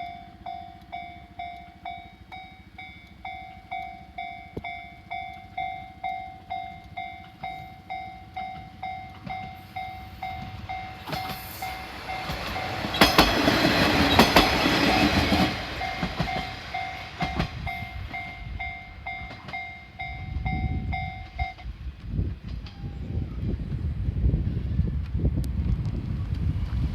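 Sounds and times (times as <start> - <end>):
level-crossing warning bell: 0.0 - 21.8
train wheels clicking on rail joints: 0.0 - 23.6
diesel railcar passing: 0.0 - 26.9.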